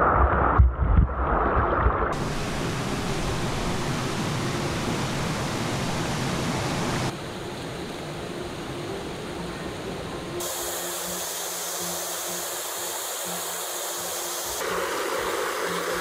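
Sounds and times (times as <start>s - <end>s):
water rushing over rocks: 1.2s - 16.0s.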